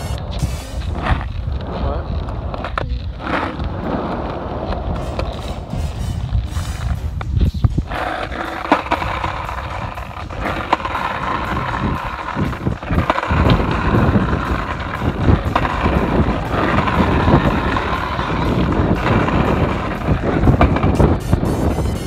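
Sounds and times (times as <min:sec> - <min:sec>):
small wheels rolling on asphalt: 0:00.0 - 0:22.0.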